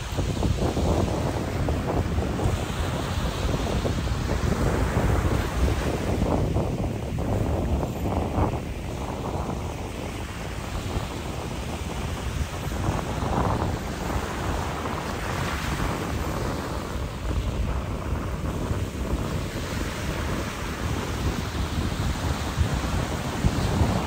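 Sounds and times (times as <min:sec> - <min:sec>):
small waves washing on sand: 0:00.0 - 0:24.0
wind buffeting microphone: 0:00.0 - 0:24.0.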